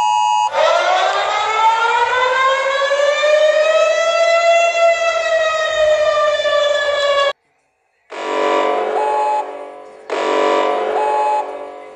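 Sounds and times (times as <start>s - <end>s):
siren wailing: 0.0s - 7.4s, 8.1s - 11.9s.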